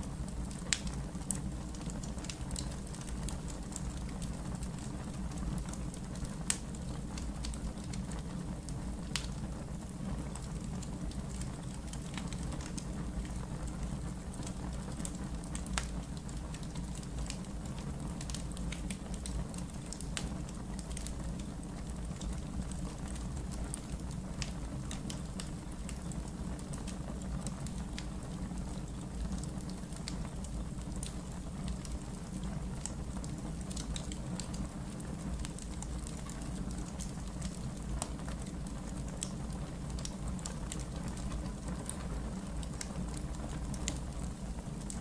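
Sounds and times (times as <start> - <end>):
logs crackling in fireplace: 0.0 - 45.0
low rumble of flames: 0.0 - 45.0.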